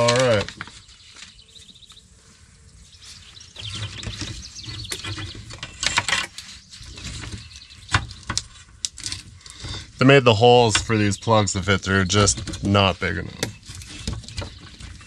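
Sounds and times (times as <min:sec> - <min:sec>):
rustling plastic connectors and wires: 0:00.0 - 0:02.0, 0:03.0 - 0:10.0, 0:10.6 - 0:15.0.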